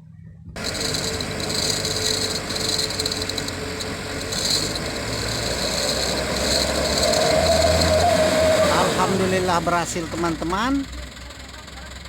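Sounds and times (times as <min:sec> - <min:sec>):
mechanical noise: 0:00.0 - 0:10.4
truck engine running: 0:00.0 - 0:12.0.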